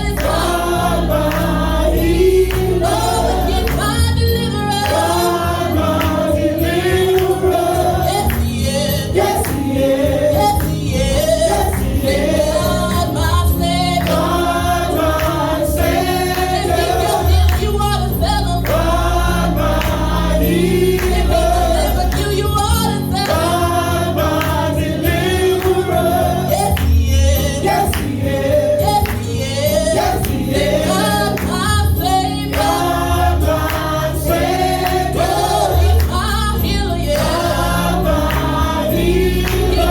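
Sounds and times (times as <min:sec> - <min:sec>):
bass: 0:00.0 - 0:39.9
gospel choir singing: 0:00.0 - 0:39.9.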